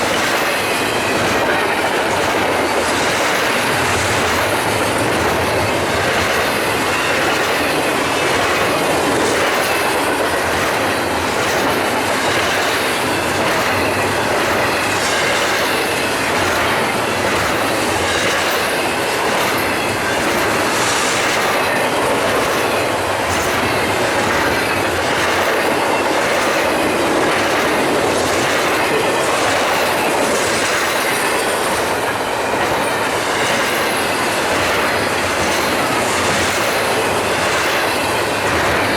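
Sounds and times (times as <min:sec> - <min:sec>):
train wheels rolling on rails: 0:00.0 - 0:38.9.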